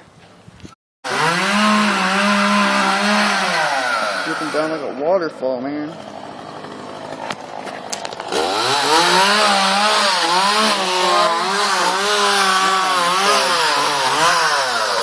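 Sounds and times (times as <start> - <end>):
chainsaw cutting wood: 1.0 - 4.9, 5.8 - 15.0.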